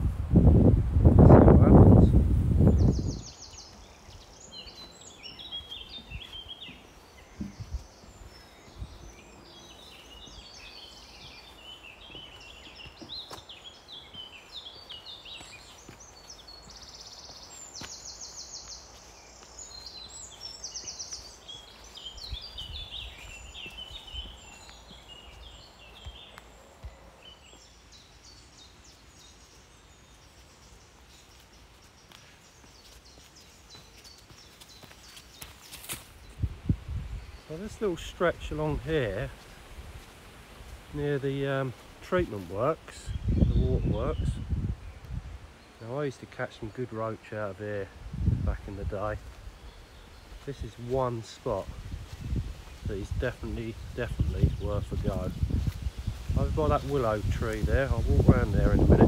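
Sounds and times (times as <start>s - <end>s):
birds singing and calling: 1.4s - 59.0s.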